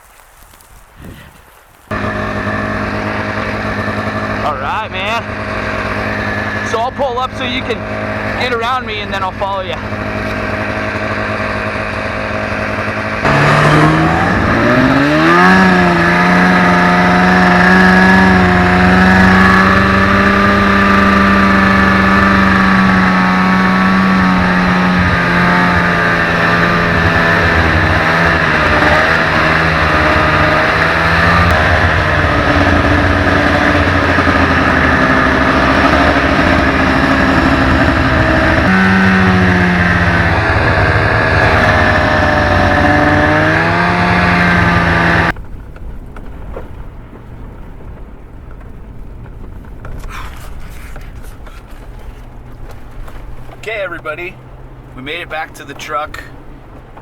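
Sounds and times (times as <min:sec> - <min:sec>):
snowmobile engine revving: 0:00.9 - 0:45.4, 0:49.9 - 0:52.5, 0:53.5 - 0:56.4.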